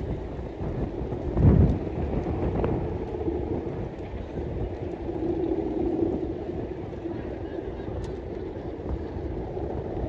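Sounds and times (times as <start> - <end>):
kite hummer droning: 0.0 - 10.0
wind buffeting microphone: 0.0 - 10.0.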